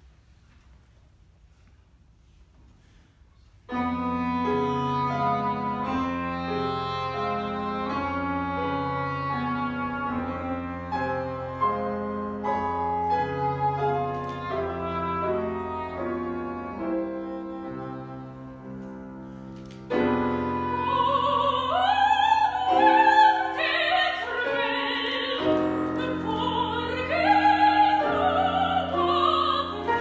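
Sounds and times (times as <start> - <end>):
piano: 0.0 - 30.0.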